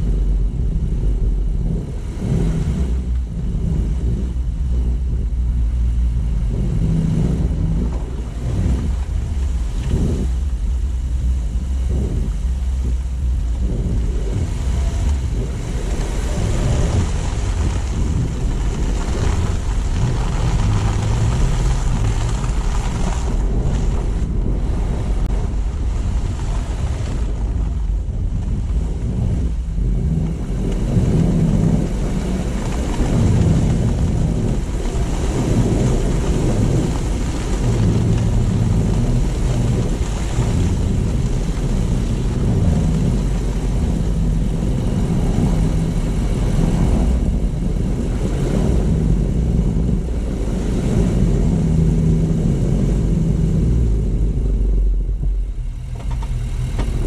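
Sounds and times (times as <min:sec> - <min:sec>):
low engine rumble: 0:00.0 - 0:57.0
road and tyre noise: 0:00.0 - 0:57.0
wind buffeting microphone: 0:00.0 - 0:57.0.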